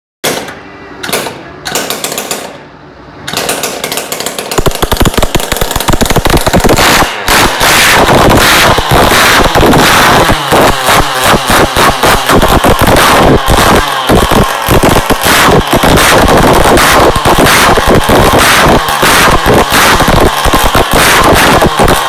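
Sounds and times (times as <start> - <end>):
engine starting and running roughly: 0.2 - 2.6, 3.3 - 22.0.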